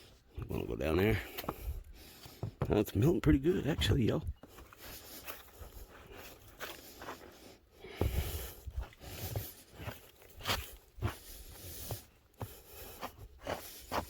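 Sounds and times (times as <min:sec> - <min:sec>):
footsteps crunching through snow: 0:02.4 - 0:14.0.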